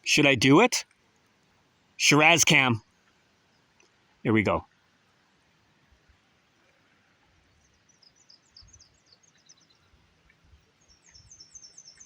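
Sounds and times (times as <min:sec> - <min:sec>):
songbird singing: 0:00.0 - 0:04.8, 0:06.7 - 0:12.0.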